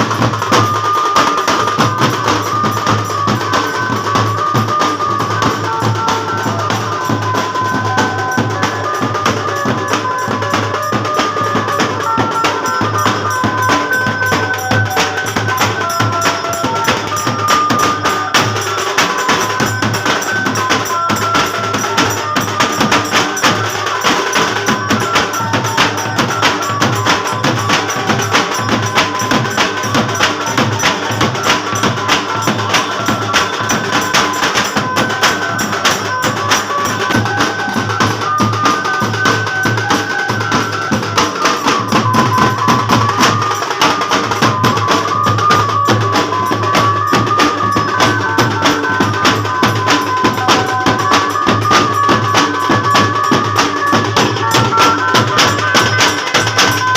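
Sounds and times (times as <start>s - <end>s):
fast drumming: 0.0s - 56.9s.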